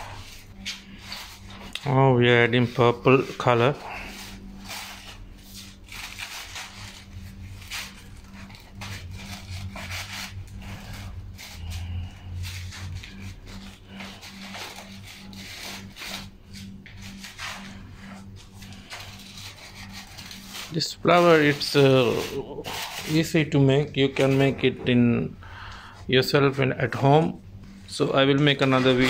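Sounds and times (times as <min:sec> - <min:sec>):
paper rustling and rubbing: 0:00.0 - 0:25.2, 0:27.6 - 0:29.0
steady low hum: 0:00.0 - 0:29.0.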